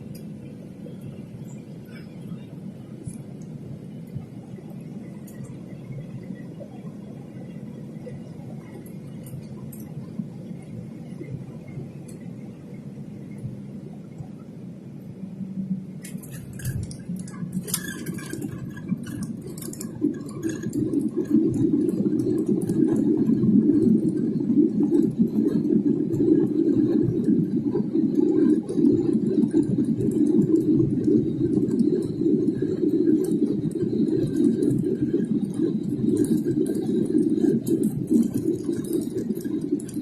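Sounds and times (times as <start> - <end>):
airliner cabin engine roar: 0.0 - 40.0.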